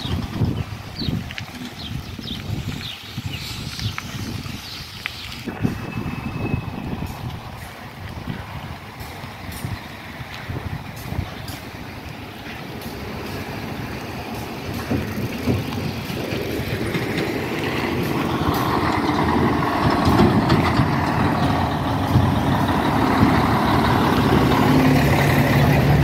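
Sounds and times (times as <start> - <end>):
diesel dump truck engine: 0.0 - 2.6, 5.4 - 26.0.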